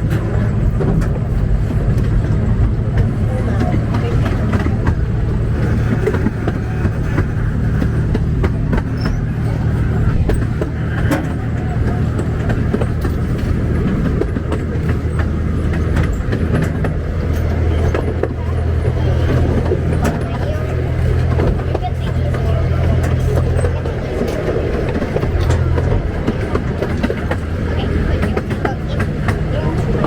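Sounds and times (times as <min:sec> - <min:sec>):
train low drone: 0:00.0 - 0:30.0
wheels clicking and rattling: 0:00.0 - 0:30.0.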